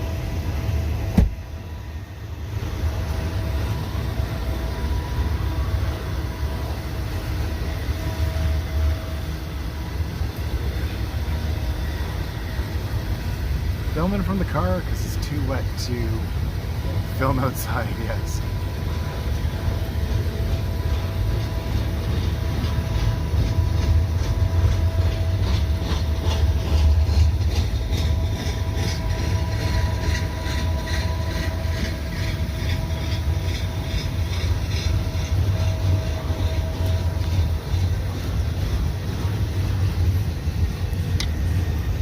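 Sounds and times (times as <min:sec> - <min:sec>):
low train rumble: 0:00.0 - 0:42.0
train wheels clicking on rails: 0:02.4 - 0:42.0.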